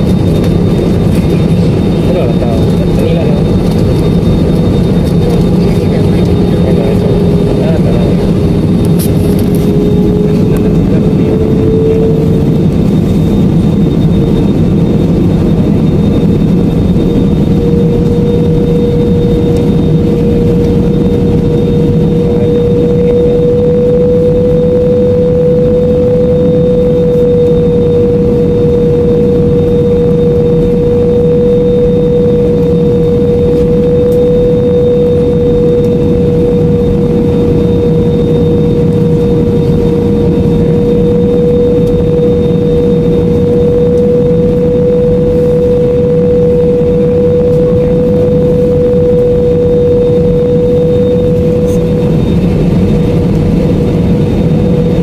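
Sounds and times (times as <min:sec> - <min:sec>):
jet engine and airflow rumble: 0:00.0 - 0:55.0
steady cabin hum: 0:00.0 - 0:55.0.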